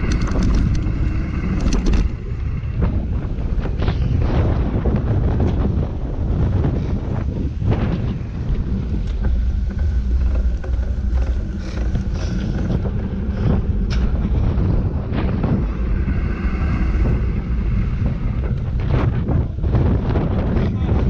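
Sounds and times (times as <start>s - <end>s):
wind buffeting camera: 0.0s - 21.0s.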